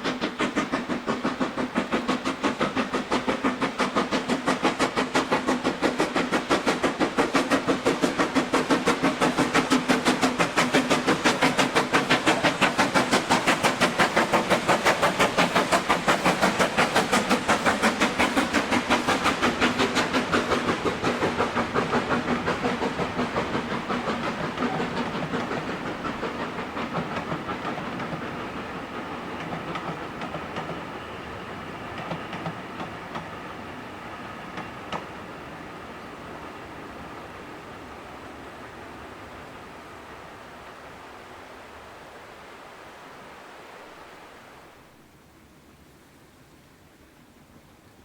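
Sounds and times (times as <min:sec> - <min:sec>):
steam locomotive chuffing: 0:00.0 - 0:41.2.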